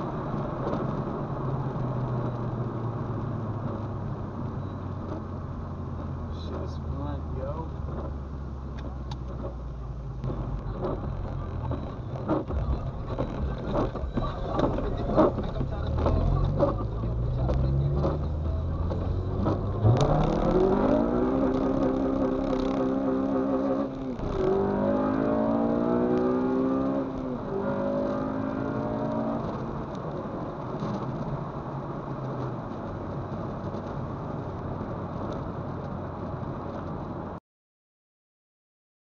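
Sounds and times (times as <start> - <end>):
car engine accelerating: 0.0 - 37.4.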